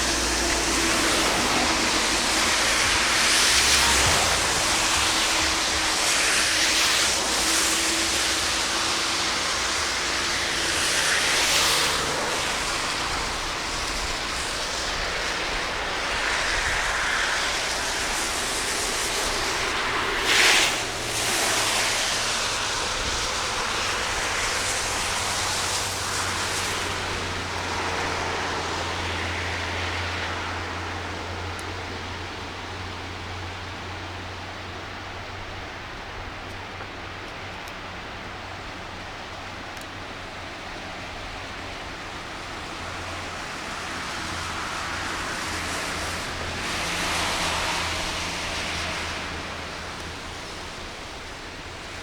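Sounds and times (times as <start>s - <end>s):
heavy rain: 0.0s - 52.0s
rushing floodwater: 0.0s - 52.0s.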